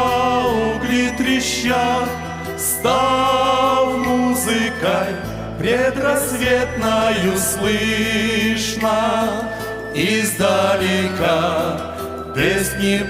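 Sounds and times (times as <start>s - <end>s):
voices singing worship song: 0.0s - 13.0s.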